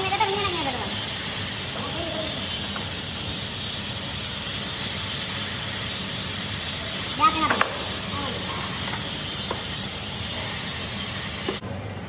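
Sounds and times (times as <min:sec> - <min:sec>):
steady hissing noise: 0:00.0 - 0:12.0.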